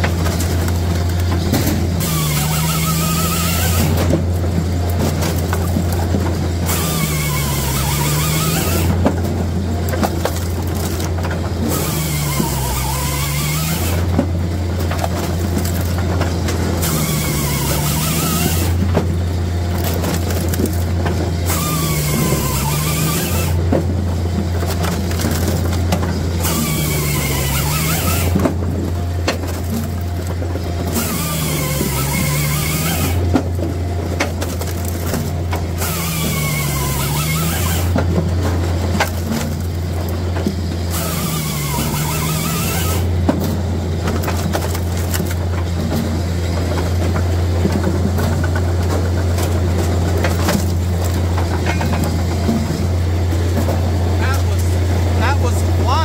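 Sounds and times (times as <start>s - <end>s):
firewood processor running: 0.0s - 56.0s.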